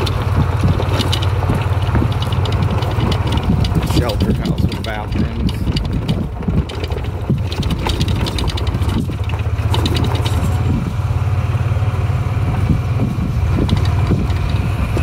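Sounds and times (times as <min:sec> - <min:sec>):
golf cart engine running: 0:00.0 - 0:15.0.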